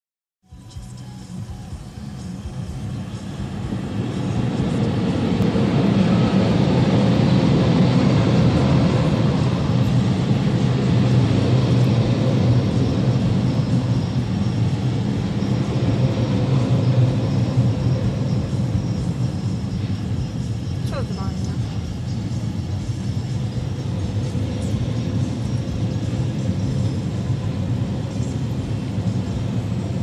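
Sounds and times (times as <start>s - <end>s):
train wheels rumbling on rails: 0.5s - 30.0s.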